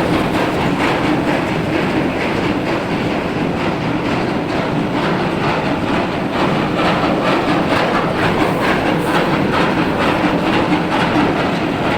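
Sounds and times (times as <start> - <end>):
machinery rhythmic clatter: 0.0 - 11.9.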